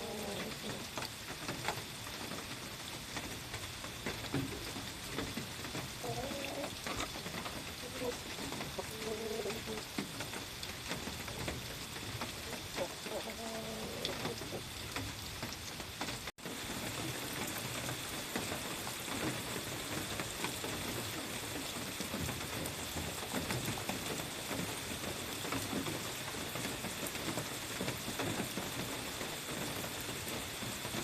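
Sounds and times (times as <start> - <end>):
light rain pattering: 0.0 - 31.0.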